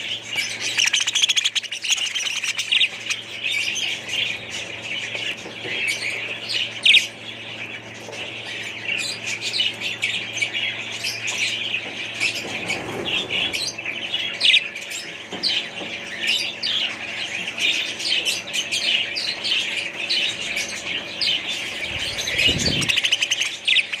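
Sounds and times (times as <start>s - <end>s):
small birds chirping and squawking: 0.0s - 24.0s.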